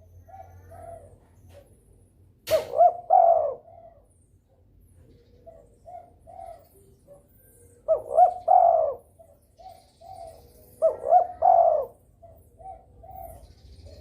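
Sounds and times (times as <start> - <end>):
dove cooing: 0.0 - 1.8, 2.5 - 4.1, 5.0 - 14.0.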